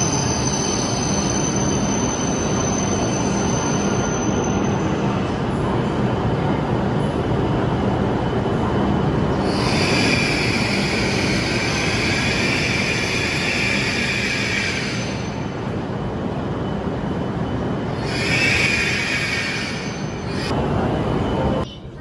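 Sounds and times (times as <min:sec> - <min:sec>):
train rumbling slowly: 0:00.0 - 0:22.0.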